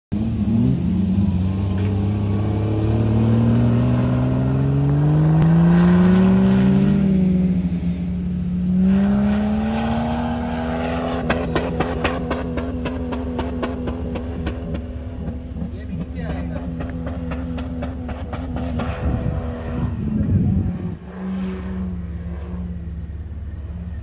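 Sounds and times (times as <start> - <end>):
engine revving under load: 0.1 - 24.0.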